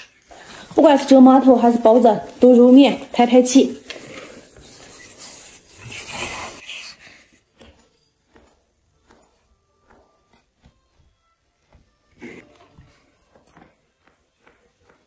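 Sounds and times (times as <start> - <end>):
dough rolled on wooden board: 0.2 - 15.0.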